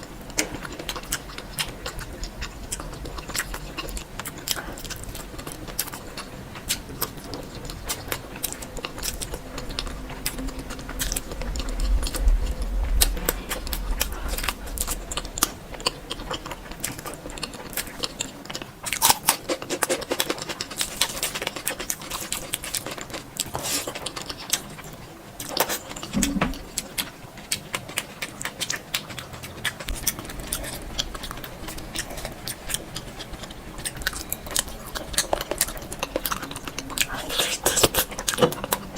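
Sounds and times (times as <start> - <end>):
chewing and mouth sounds: 0.0 - 38.9.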